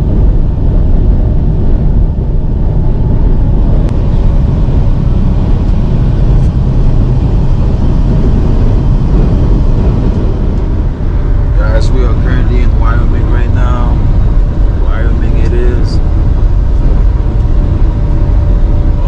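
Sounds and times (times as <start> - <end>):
road noise: 0.0 - 19.0
truck engine rumble: 0.0 - 19.0.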